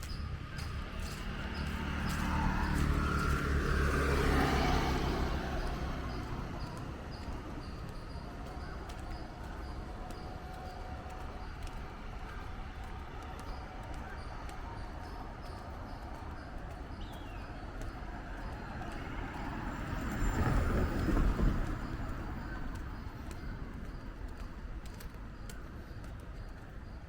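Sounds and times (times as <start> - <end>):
faint footsteps: 0.0 - 27.0
car passing by: 0.4 - 24.1.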